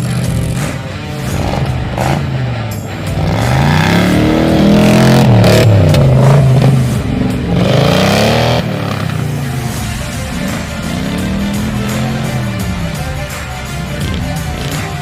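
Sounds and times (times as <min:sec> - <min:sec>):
off-road engine revving: 0:00.0 - 0:15.0.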